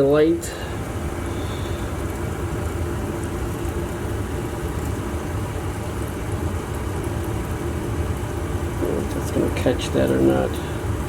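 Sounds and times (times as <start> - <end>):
low equipment hum: 0.0 - 11.0.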